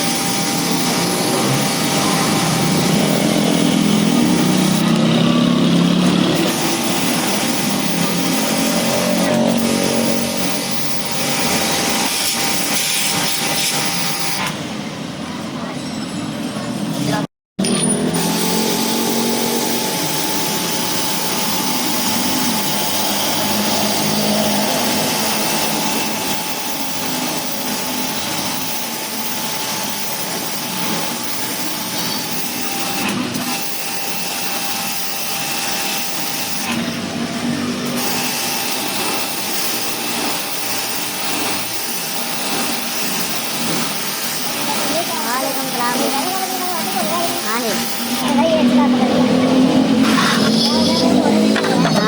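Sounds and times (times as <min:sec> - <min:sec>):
pressure washer motor whining: 0:00.0 - 0:52.0.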